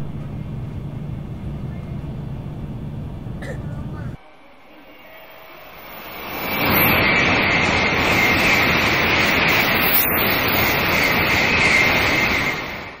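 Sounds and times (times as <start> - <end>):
bullet train roaring past: 0.0 - 13.0.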